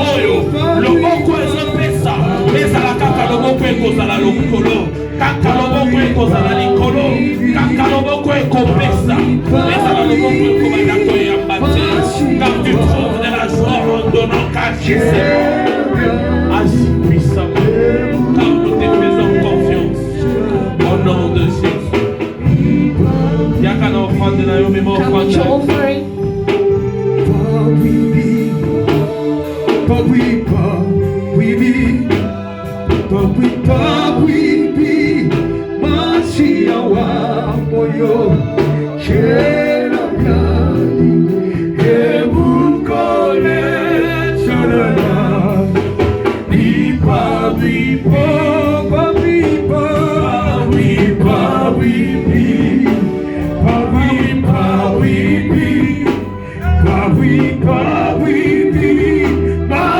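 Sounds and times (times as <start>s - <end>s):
gospel singing with instruments: 0.0s - 59.9s.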